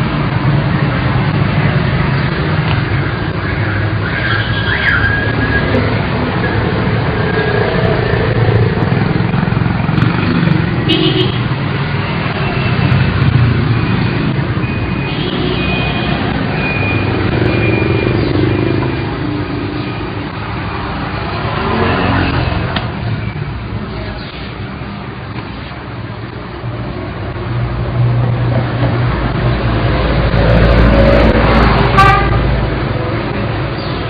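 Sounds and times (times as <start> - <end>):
vehicle engines rumbling: 0.0 - 34.0.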